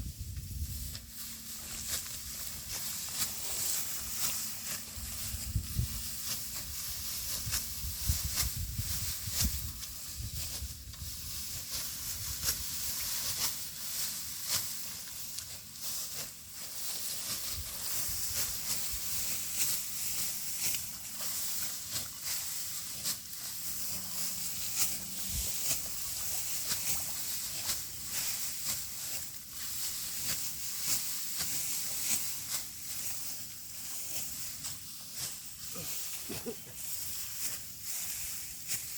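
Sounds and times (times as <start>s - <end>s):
rice stalks rustling and crackling: 0.0s - 38.9s.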